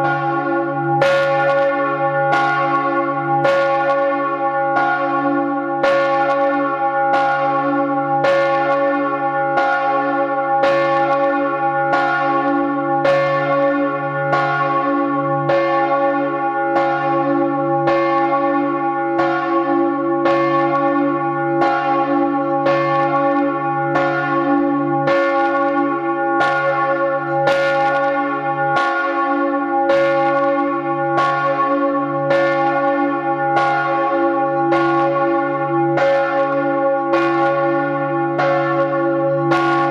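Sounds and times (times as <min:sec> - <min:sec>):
church bell clapper strikes: 0:00.0 - 0:39.9.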